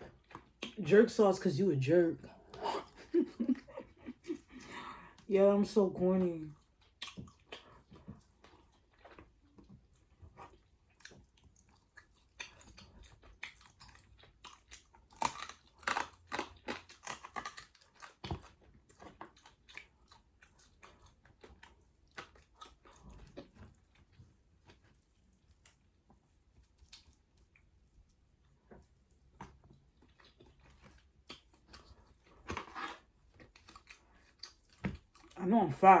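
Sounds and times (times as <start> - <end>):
person chewing food: 0.0 - 0.8, 2.2 - 5.3, 6.4 - 35.4.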